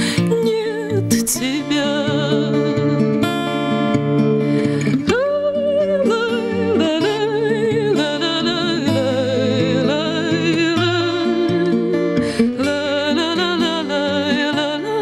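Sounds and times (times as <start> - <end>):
woman singing with vibrato: 0.0 - 3.9, 4.7 - 15.0
acoustic guitar: 0.0 - 15.0.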